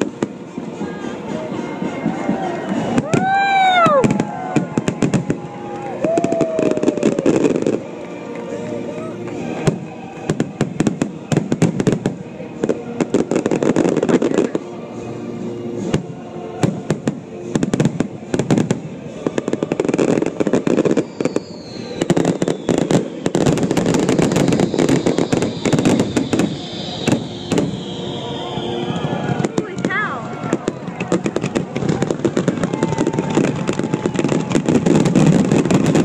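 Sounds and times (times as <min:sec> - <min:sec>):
fireworks cracking and booming: 0:00.0 - 0:14.8, 0:15.8 - 0:36.0
music playing: 0:00.0 - 0:36.0.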